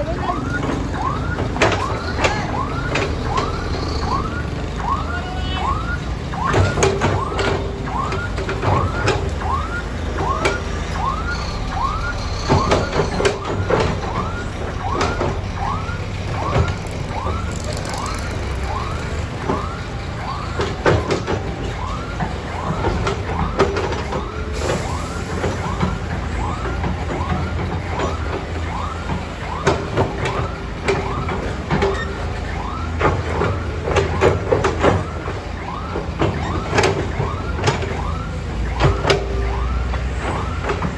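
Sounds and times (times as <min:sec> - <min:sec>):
heavy diesel machine running: 0:00.0 - 0:40.9
knocks and clanks: 0:00.0 - 0:40.9
vehicle warning alarm chirping: 0:00.0 - 0:40.9.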